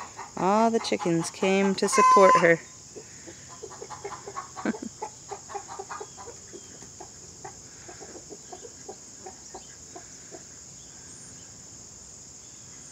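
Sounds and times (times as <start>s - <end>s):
hens clucking: 0.0s - 10.5s
high-pitched insect chorus: 0.0s - 12.9s.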